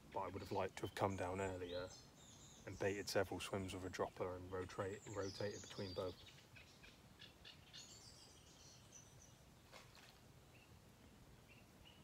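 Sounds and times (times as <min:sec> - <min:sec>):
faint bird chirps: 0:00.2 - 0:12.0.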